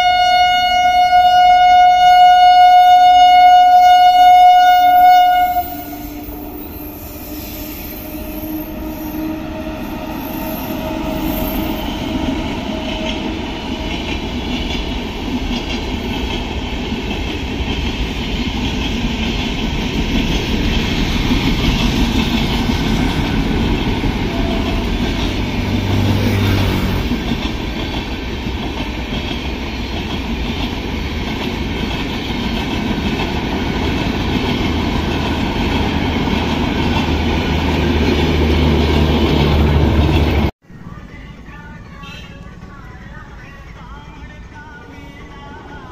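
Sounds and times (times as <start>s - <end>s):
train rumbling on tracks: 0.0s - 45.9s.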